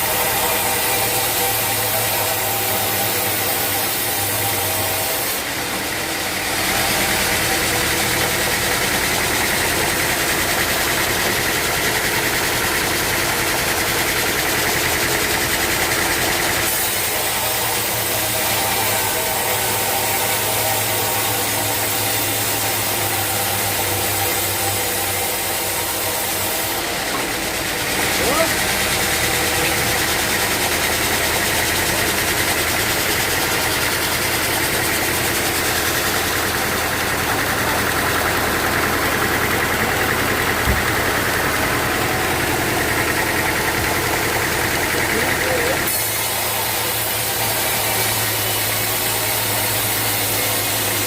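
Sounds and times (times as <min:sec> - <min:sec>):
saw whining through log: 0:00.0 - 0:51.0
sawmill machinery humming: 0:00.0 - 0:51.0.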